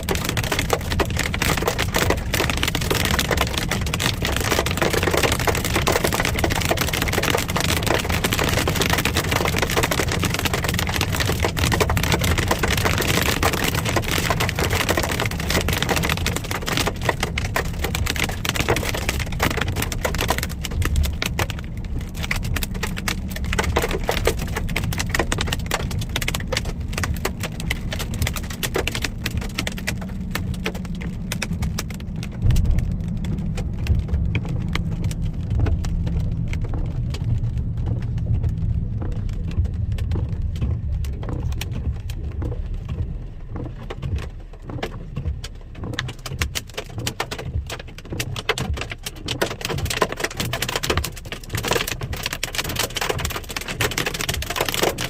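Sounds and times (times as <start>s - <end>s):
hailstones clattering on car roof: 0.0s - 55.0s
low road rumble: 0.0s - 55.0s.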